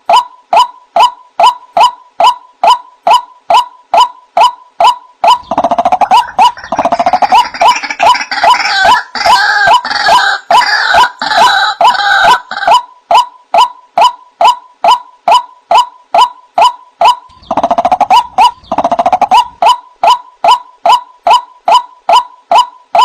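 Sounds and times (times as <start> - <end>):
harsh overlapping bird calls: 0.0 - 23.0.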